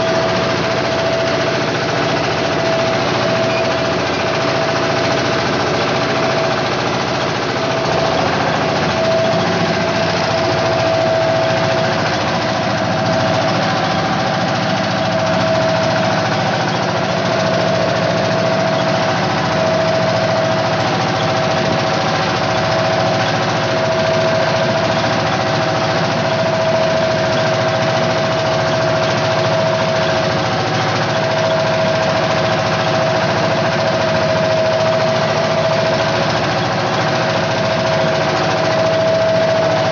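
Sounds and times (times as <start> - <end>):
boat engine running: 0.0 - 39.9
steady whine: 0.0 - 39.9.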